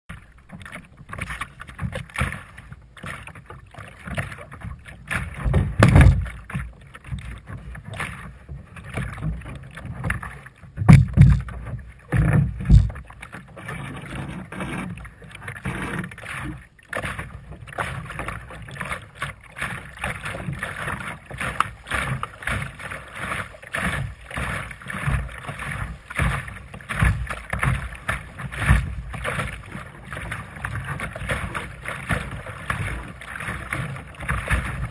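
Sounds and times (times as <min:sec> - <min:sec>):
water splashing against hull: 0:00.1 - 0:34.9.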